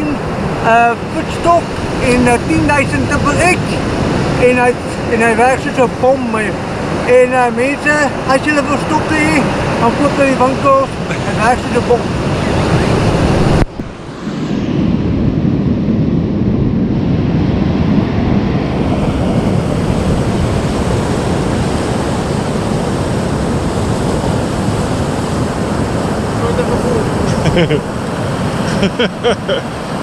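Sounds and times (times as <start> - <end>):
breaking surf: 0.0 - 15.8, 17.5 - 30.0
wind on microphone: 0.0 - 30.0.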